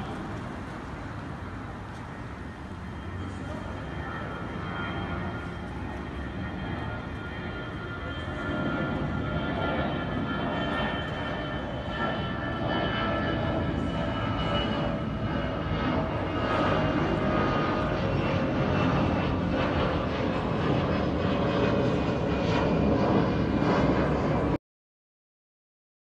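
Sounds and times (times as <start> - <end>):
jet engine roar with whine: 0.0 - 24.6.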